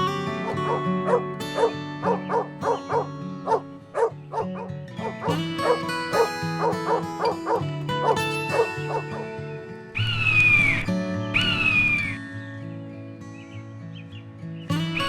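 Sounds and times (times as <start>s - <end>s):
background music with sustained notes: 0.0s - 15.0s.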